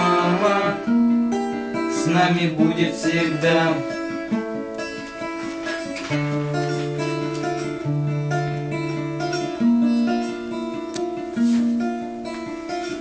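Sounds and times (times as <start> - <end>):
acoustic guitar strummed and picked: 0.0 - 13.0.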